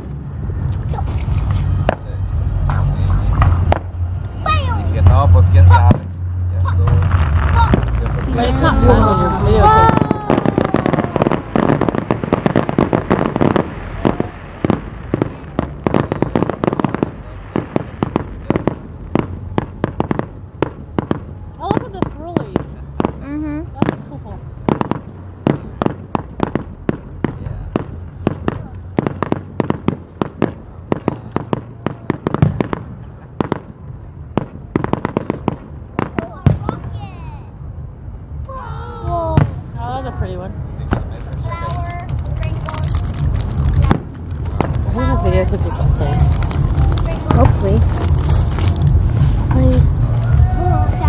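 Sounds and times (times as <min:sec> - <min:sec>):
fireworks crackling: 0:00.0 - 0:37.8, 0:39.3 - 0:51.0.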